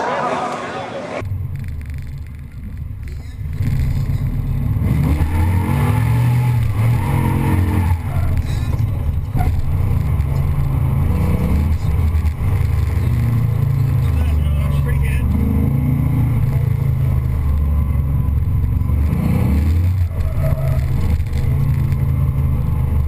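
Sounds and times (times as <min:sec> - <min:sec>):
car engine revving: 0:01.2 - 0:23.0.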